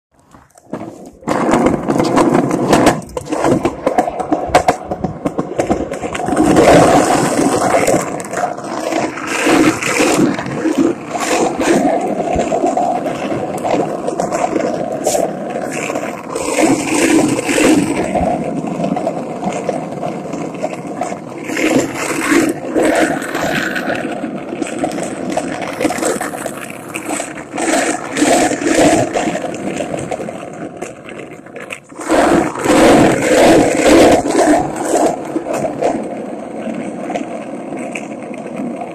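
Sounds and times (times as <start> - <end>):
skateboard wheels rolling on pavement: 0.1 - 38.9
skateboard clicks and knocks: 0.2 - 38.9.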